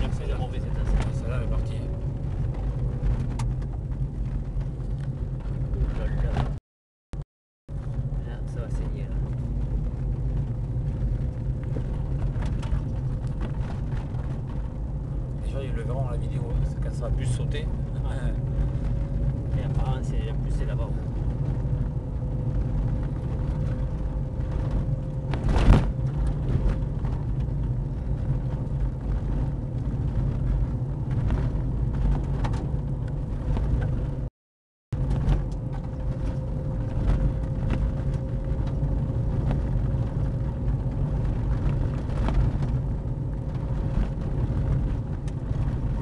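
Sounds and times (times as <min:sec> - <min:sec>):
car rumbling on gravel: 0:00.0 - 0:06.6, 0:07.7 - 0:34.3, 0:34.9 - 0:46.0.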